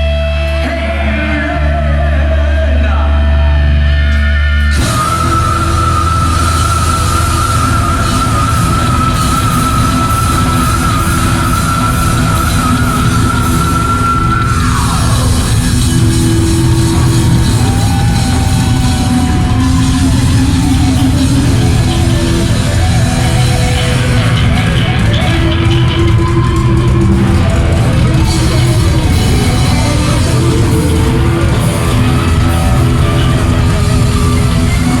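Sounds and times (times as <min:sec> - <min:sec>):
heavy metal band playing live: 0:00.0 - 0:35.0.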